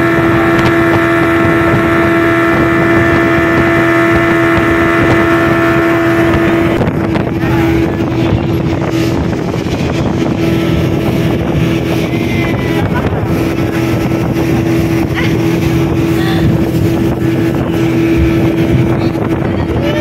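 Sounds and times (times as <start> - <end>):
outboard motor running: 0.0 - 20.0
water rushing: 0.0 - 20.0
wind buffeting microphone: 0.0 - 20.0.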